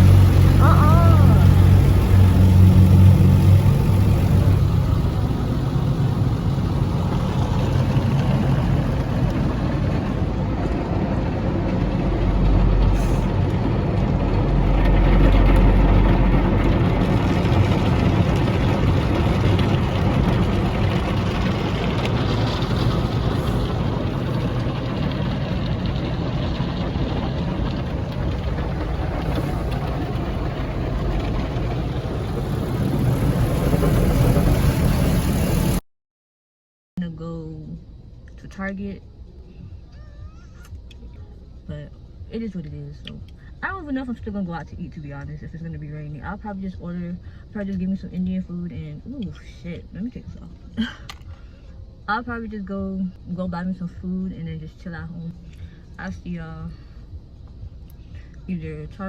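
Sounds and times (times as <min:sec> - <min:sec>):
car engine and road noise: 0:00.0 - 0:35.8, 0:37.0 - 0:59.0.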